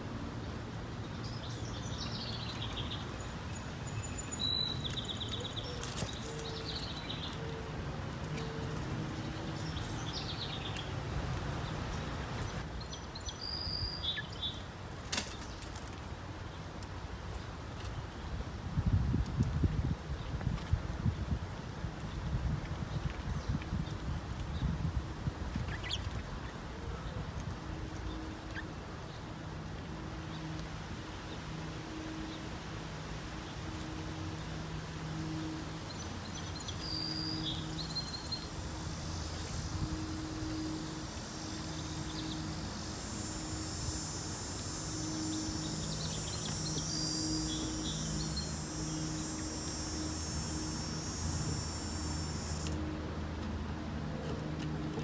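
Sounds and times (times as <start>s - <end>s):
insects chirping: 0.0s - 55.0s
insect high buzz: 8.2s - 55.0s.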